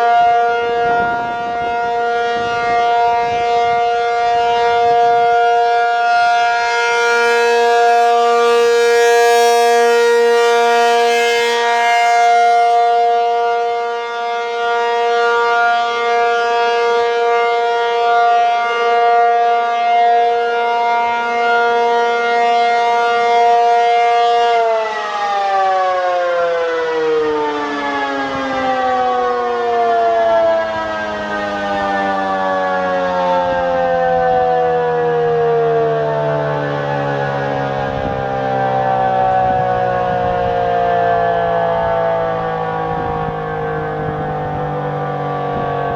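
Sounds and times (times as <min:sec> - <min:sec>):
tornado siren alert tone: 0:00.0 - 0:45.9.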